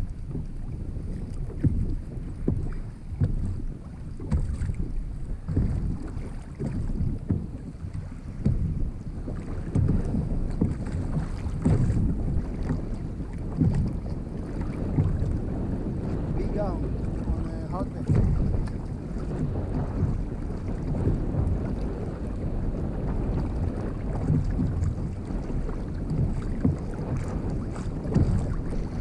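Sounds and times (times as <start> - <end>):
water slapping against kayak hull: 0.0 - 29.0
wind buffeting microphone: 0.0 - 29.0
knocks on hull: 0.2 - 29.0.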